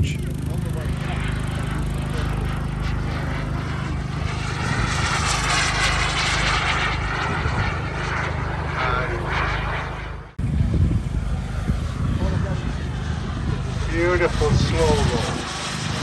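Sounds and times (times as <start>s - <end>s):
model jet engine whine: 0.0s - 16.0s.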